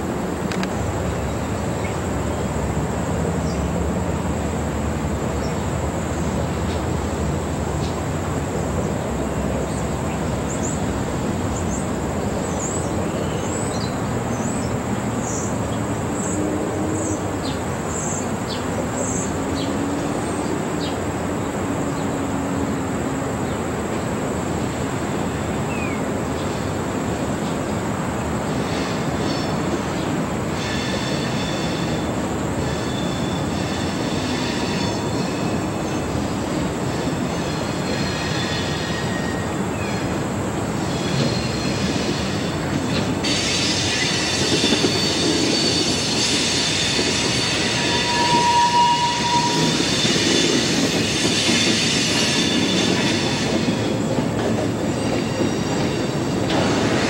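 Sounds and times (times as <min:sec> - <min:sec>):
distant freight train rolling: 0:00.0 - 0:57.0.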